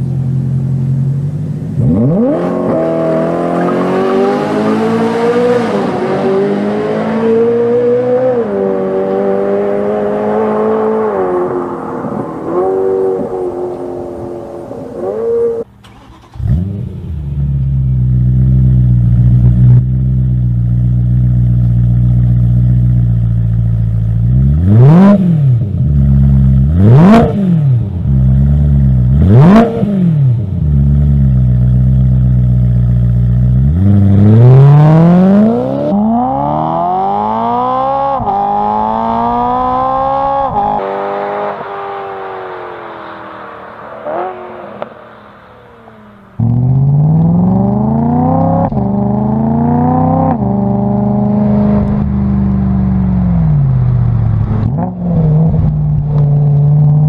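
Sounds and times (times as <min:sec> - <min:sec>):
car engine revving and accelerating: 0:01.7 - 0:19.9, 0:24.2 - 0:57.0.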